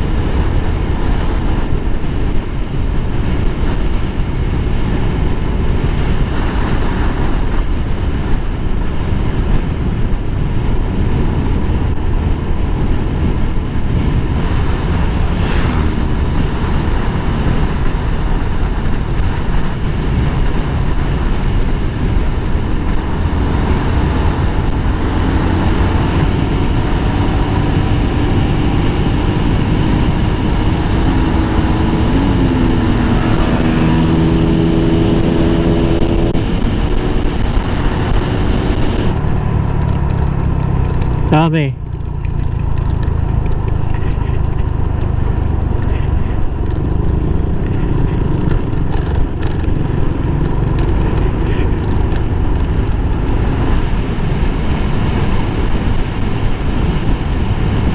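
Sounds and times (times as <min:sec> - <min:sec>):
motorcycle engine and tyres: 0:00.0 - 0:57.9
passing motorcycle engine: 0:00.0 - 0:57.9
wind buffeting microphone: 0:00.0 - 0:57.9.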